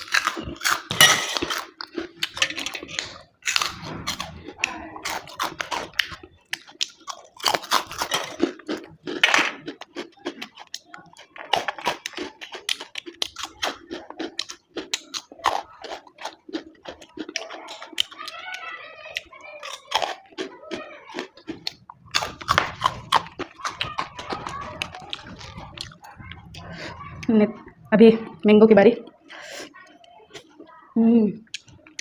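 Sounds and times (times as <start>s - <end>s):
crunching: 0.0s - 18.5s, 19.1s - 27.9s
person chewing food: 0.0s - 28.4s, 29.0s - 30.8s, 31.4s - 32.0s.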